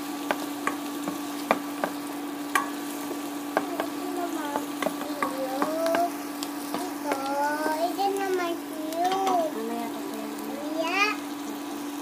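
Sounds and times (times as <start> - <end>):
garlic and onion sizzling in oil: 0.0 - 12.0.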